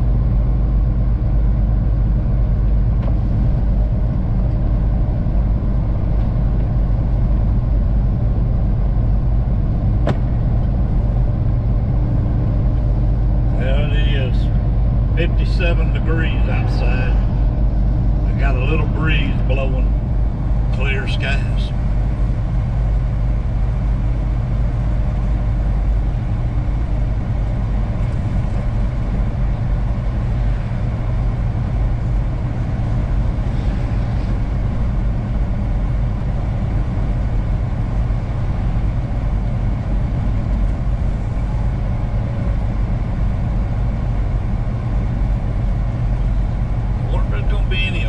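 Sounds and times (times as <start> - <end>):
road noise: 0.0 - 48.0
truck engine drone: 0.0 - 48.0.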